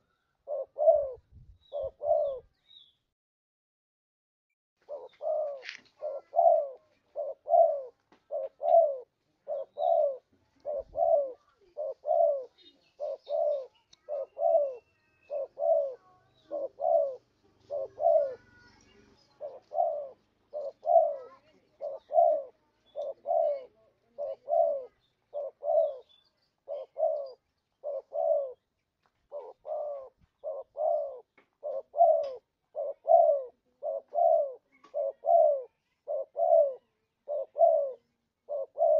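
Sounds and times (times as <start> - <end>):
dove cooing: 0.0 - 2.5, 4.8 - 38.9.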